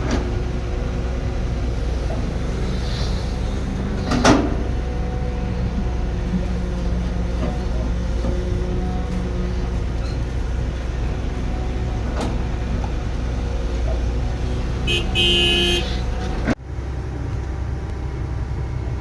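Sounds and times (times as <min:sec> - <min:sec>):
heavy machinery engine rumble: 0:00.0 - 0:19.0.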